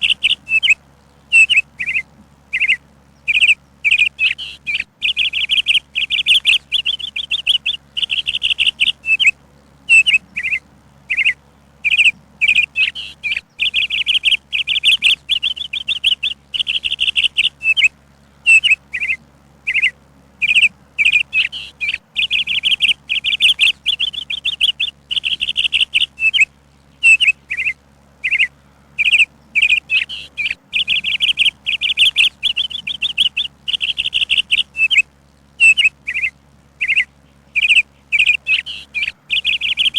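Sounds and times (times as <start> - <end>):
songbird chirping in trills: 0.0 - 39.9.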